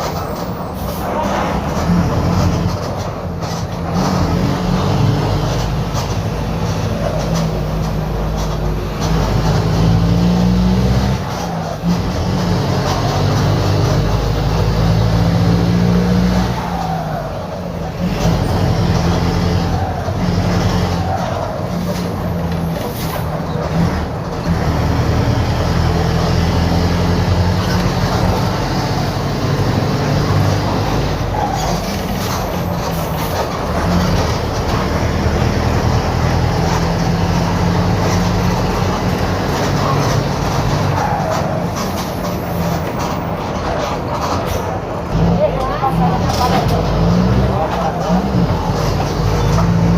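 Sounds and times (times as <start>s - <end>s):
diesel bus engine under load: 0.0s - 49.9s.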